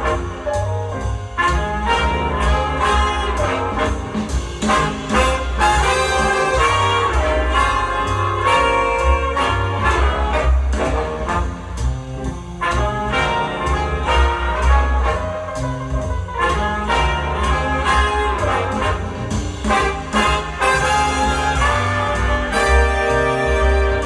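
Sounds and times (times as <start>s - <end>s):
recorded music with brass and bass: 0.0s - 24.0s.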